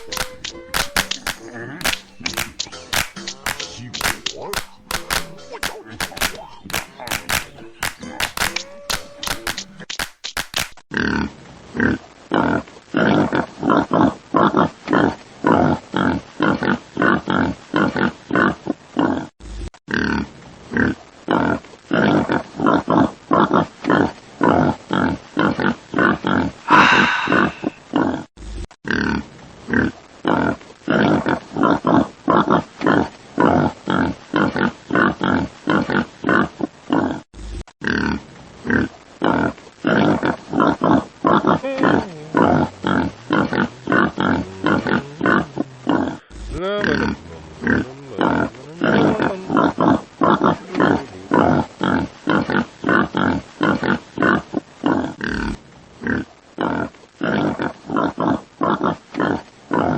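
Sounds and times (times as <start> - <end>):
pig grunting: 0.0 - 9.6, 10.9 - 19.3, 19.9 - 28.3, 28.9 - 37.2, 37.8 - 59.9.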